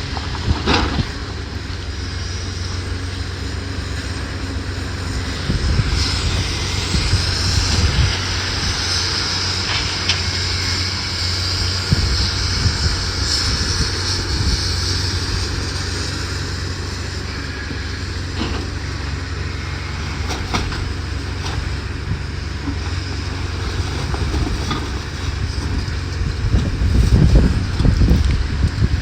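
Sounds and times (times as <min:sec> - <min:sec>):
heavy machinery engine rumble: 0:00.0 - 0:29.0.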